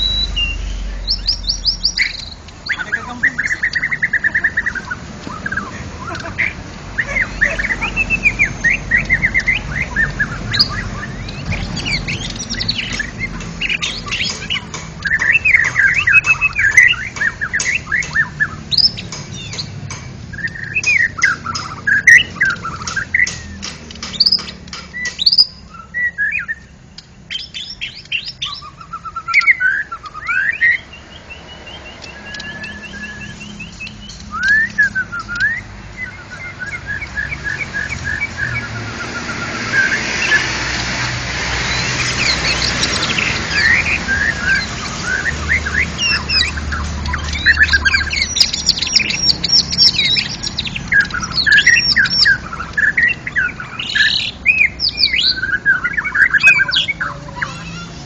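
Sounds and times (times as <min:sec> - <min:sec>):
bird singing whistled song: 0:00.0 - 0:40.6, 0:41.6 - 0:57.9.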